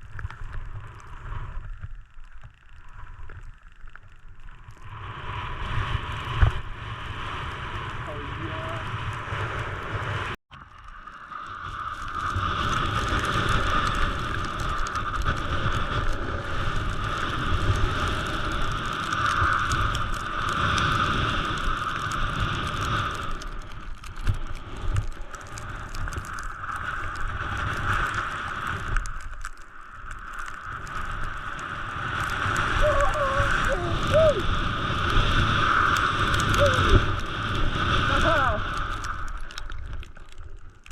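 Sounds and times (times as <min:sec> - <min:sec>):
wind rumbling on microphone: 0:00.0 - 0:40.9.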